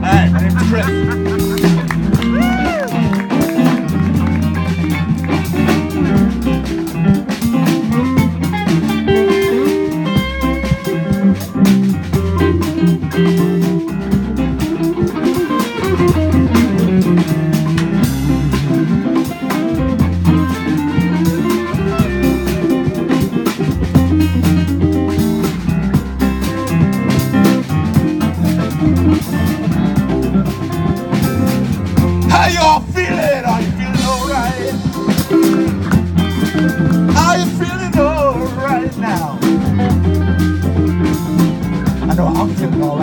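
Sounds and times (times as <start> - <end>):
bass line: 0.0 - 43.0
drum kit: 0.0 - 43.0
electric guitar: 0.0 - 43.0.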